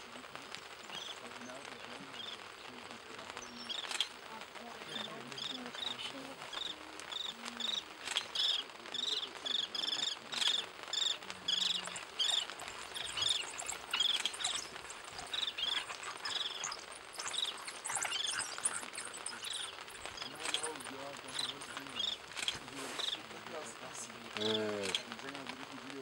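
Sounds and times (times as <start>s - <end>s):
wild dogs twittering: 0.8s - 25.2s.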